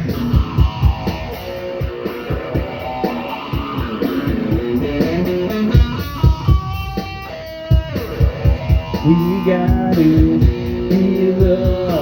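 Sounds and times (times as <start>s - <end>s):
guitar picking melody: 0.0s - 12.0s
steady low beat: 0.0s - 12.0s.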